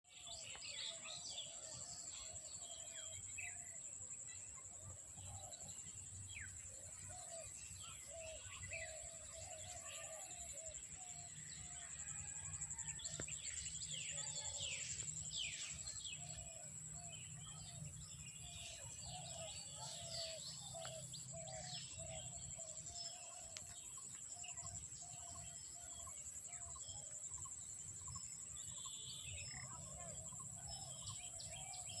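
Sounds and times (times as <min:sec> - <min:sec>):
birds chirping: 0:00.1 - 0:27.4.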